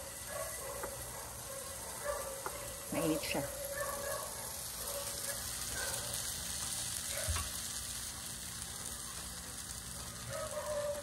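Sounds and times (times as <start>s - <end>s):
batter sizzling in a pan: 0.0s - 11.0s.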